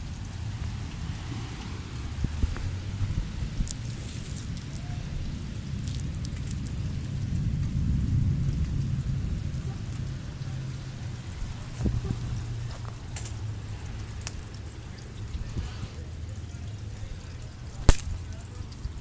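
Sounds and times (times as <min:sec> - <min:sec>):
rain drops ticking: 0:00.0 - 0:19.0
storm rumble: 0:00.0 - 0:19.0.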